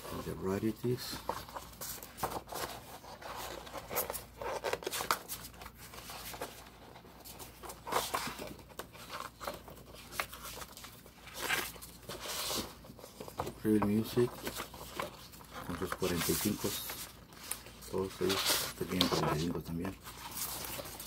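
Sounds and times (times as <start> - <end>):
paper rustling and crinkling: 0.0 - 21.0.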